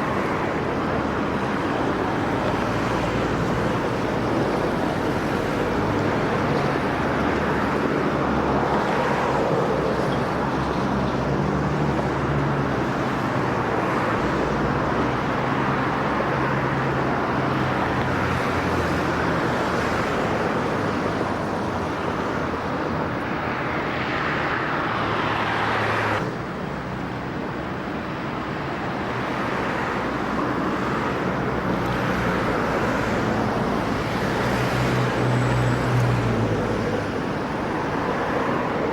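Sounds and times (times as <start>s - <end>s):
city traffic noise: 0.0s - 38.9s.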